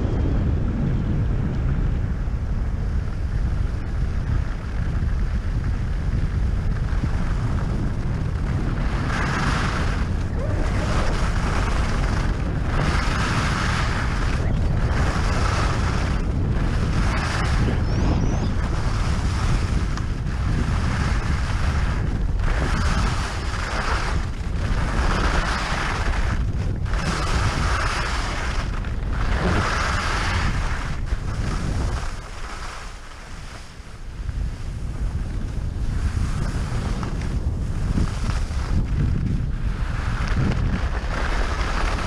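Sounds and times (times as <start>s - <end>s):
wind buffeting microphone: 0.0s - 42.0s
skis scraping on snow: 2.6s - 42.0s.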